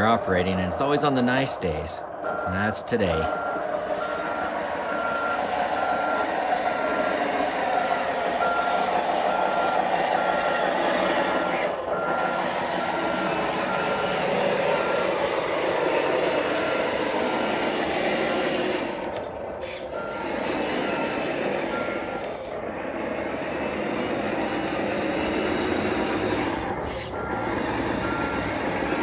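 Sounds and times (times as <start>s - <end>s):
reversing beeper: 0.0s - 29.0s
toy bulldozer running: 0.0s - 29.0s.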